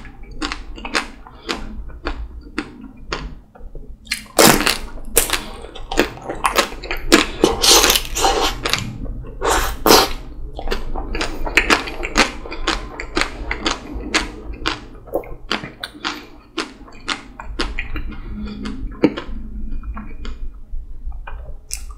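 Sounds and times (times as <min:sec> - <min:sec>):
wet chewing: 0:00.0 - 0:03.4, 0:04.0 - 0:20.6.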